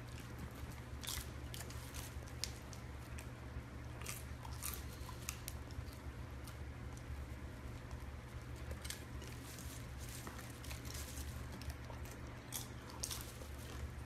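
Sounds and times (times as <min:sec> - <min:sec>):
dog chewing popcorn: 0:00.0 - 0:14.0.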